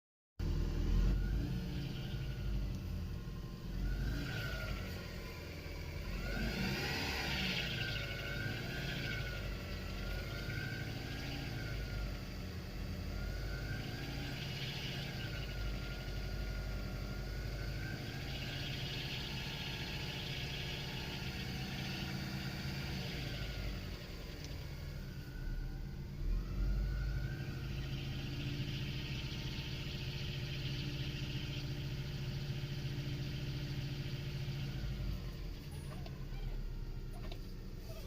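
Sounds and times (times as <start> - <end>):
high wavering whine: 0.4 - 37.1
turbo engine running: 0.4 - 38.0.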